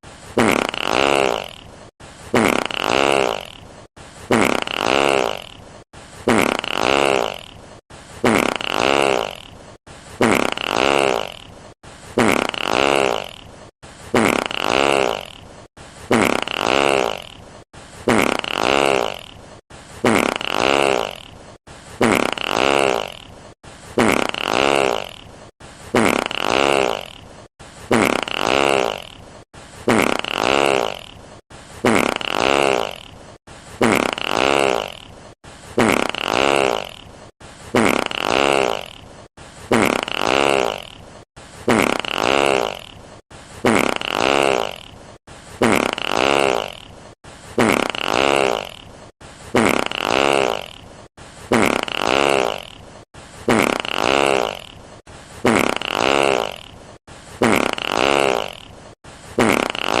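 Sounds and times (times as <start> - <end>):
buzzing fart sound effect: 0.0 - 60.0.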